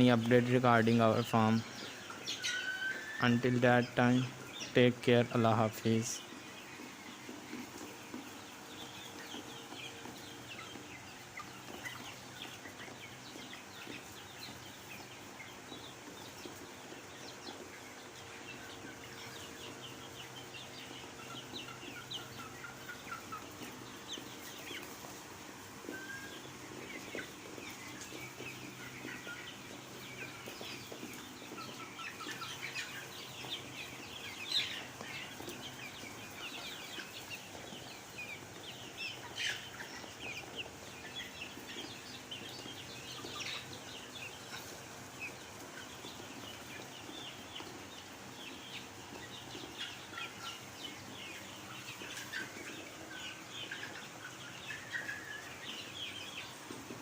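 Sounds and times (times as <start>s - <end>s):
chickens chirping and clucking: 0.0s - 57.0s.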